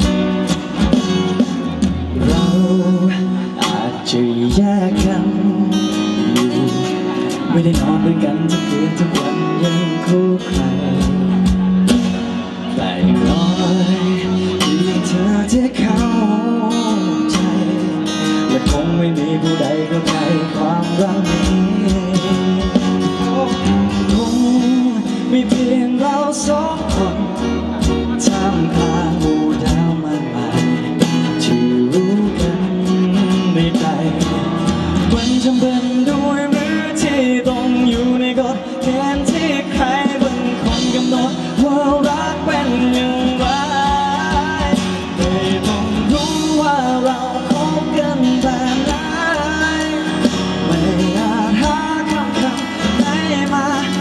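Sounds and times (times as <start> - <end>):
band with guitar: 0.0 - 54.0
man singing into a microphone: 0.0 - 54.0.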